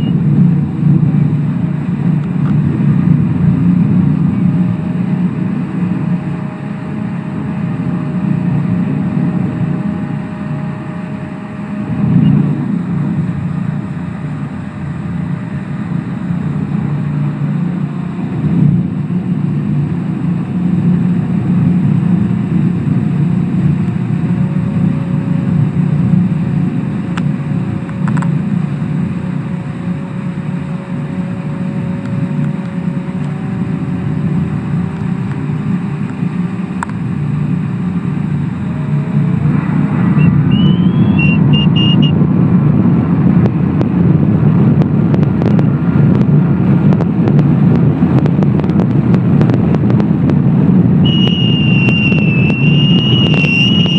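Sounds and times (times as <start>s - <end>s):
jet ski engine droning: 0.0s - 53.9s.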